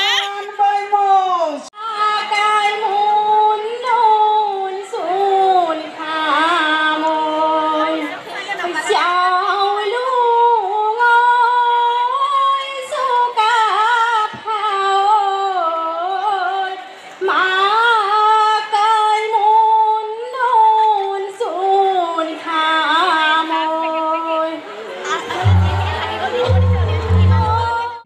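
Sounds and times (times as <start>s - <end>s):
woman singing slow song: 1.8s - 24.6s.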